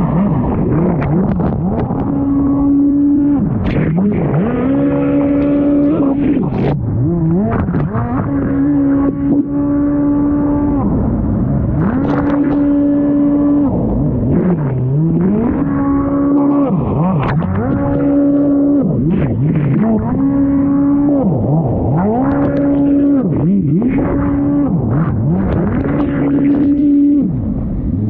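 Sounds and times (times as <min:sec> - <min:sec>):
jet ski engine revving: 0:00.0 - 0:28.0.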